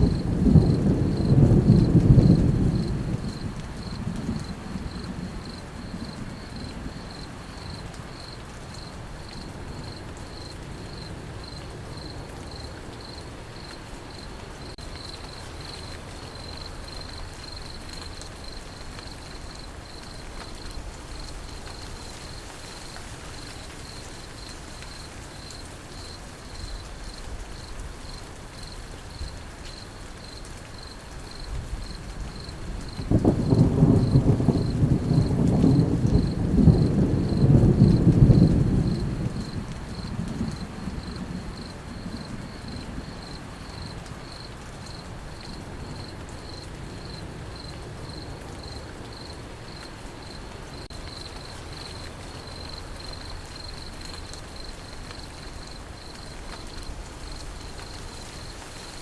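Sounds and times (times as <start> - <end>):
crickets chirping: 0.0 - 59.0
steady rain hiss: 0.0 - 59.0.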